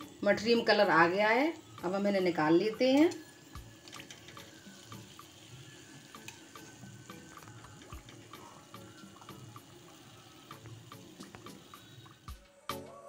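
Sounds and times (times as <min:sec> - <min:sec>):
oil sizzling with crackles: 0:00.0 - 0:12.8.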